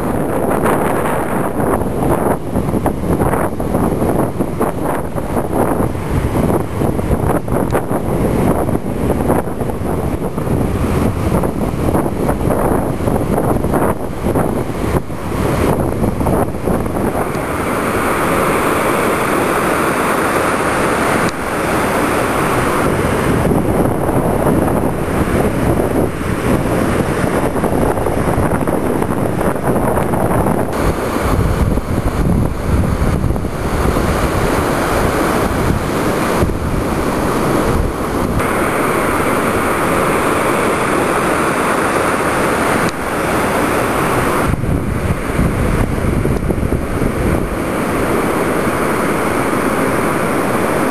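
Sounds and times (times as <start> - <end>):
ocean surf breaking: 0.0 - 50.9
wind noise on microphone: 0.0 - 50.9.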